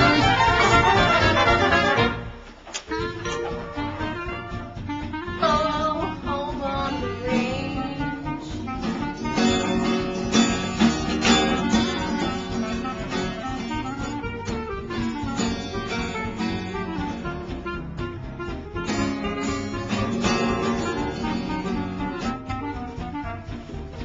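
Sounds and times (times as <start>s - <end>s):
wordless melody: 0.0s - 24.0s
acoustic guitar strumming: 2.9s - 23.8s.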